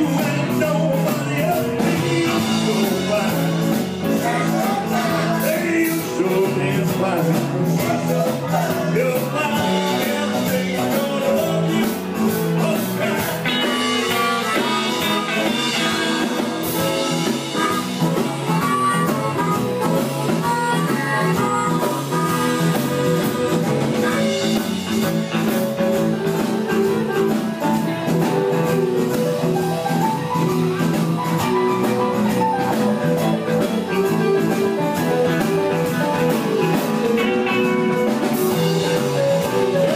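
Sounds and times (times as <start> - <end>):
blues guitar: 0.0 - 39.9
drum kit beat: 0.0 - 39.9.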